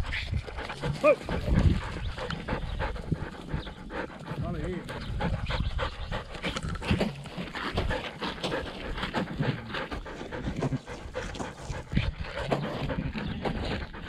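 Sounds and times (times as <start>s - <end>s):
dog panting hard: 0.0s - 14.0s.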